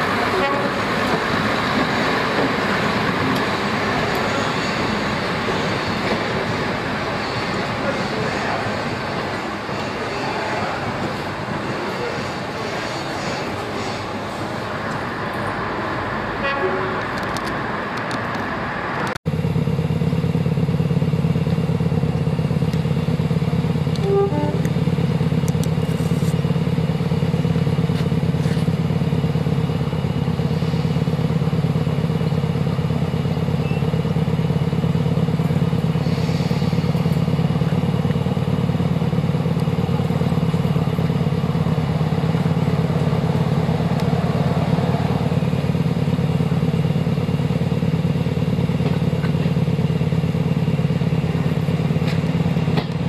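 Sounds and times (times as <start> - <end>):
diesel engines idling: 0.0 - 53.0
rough quiet engine sound: 0.0 - 53.0.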